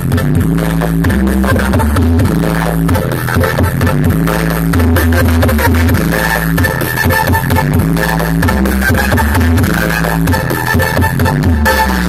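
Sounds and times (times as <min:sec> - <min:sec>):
loud electronic dance music: 0:00.0 - 0:12.0.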